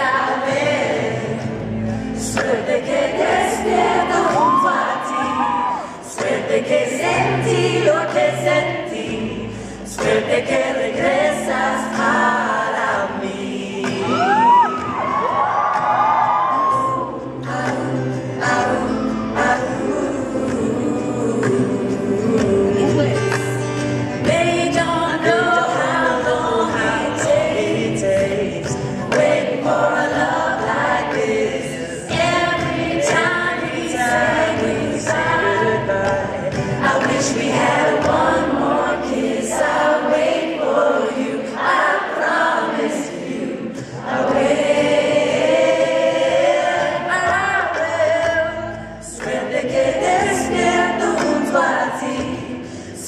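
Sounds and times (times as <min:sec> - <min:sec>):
acoustic guitar: 0:00.0 - 0:53.0
man and women singing in harmony: 0:00.0 - 0:53.0
upright bass: 0:00.6 - 0:04.6, 0:06.2 - 0:40.4, 0:43.7 - 0:53.0.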